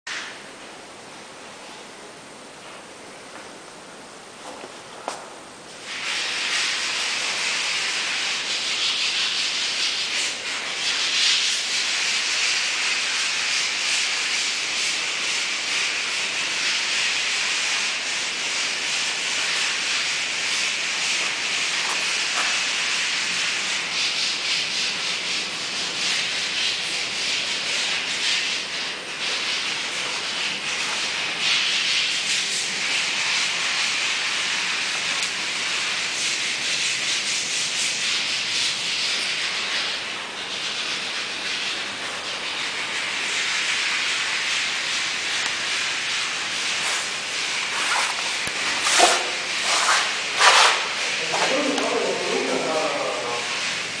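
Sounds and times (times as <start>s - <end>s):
steady hiss: 5.1s - 54.0s.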